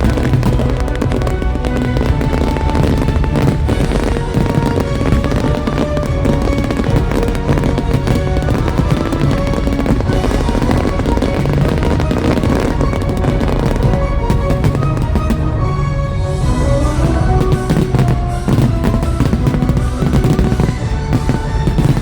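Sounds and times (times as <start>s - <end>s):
fireworks crackling and banging: 0.0s - 22.0s
loud show music: 0.0s - 22.0s.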